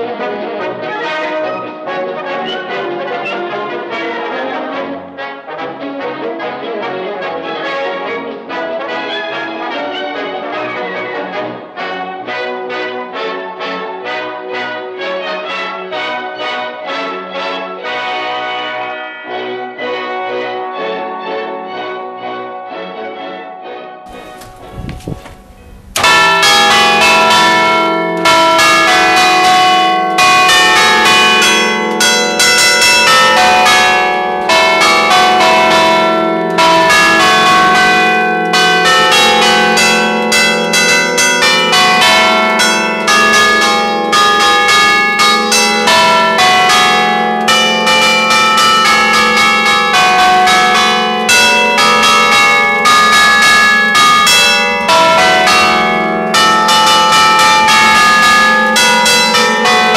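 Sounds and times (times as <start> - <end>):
church bells pealing: 0.0 - 5.0, 9.0 - 59.9.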